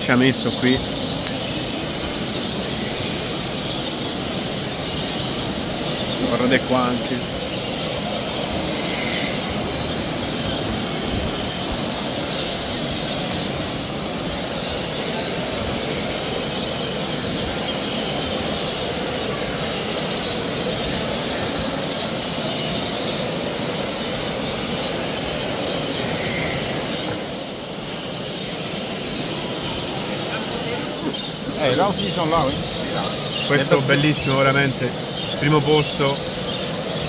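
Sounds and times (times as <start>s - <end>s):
songbirds chirping and singing: 0.0s - 37.0s.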